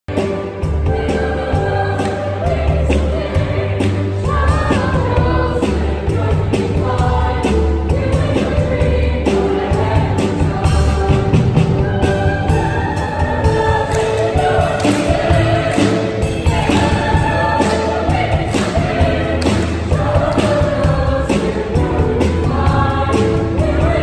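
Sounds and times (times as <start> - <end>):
upbeat accompaniment with heavy bass: 0.1 - 24.0.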